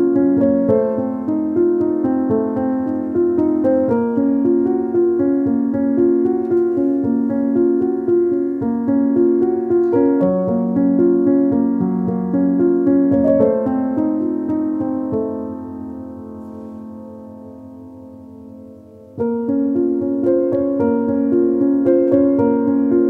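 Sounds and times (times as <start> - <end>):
background piano music: 0.0 - 23.0.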